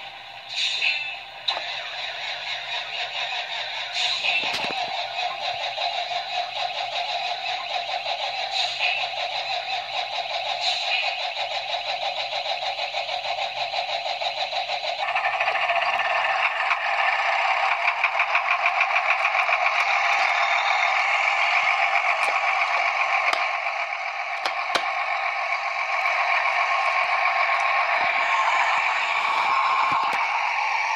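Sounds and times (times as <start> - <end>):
toy tractor engine sound: 0.0 - 30.9.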